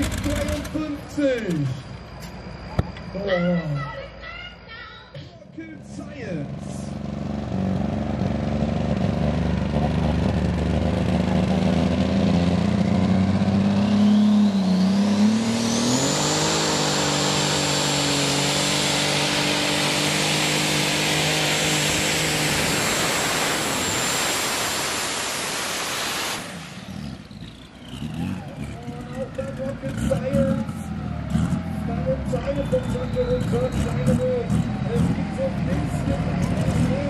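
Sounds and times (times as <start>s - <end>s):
tractor engine running under load: 0.0s - 1.6s, 5.9s - 37.0s
high whine: 0.0s - 7.6s, 12.4s - 37.0s.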